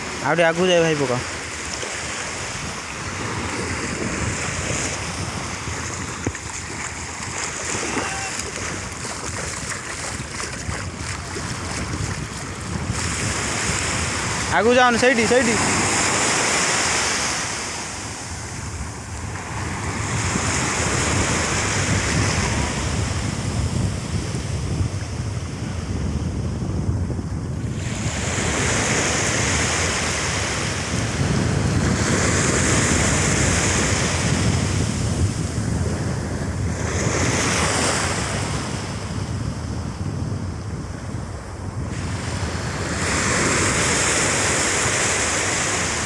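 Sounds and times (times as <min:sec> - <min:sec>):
surf washing on sandy shore: 0:00.0 - 0:46.0
wind rumbling on microphone: 0:00.0 - 0:46.0.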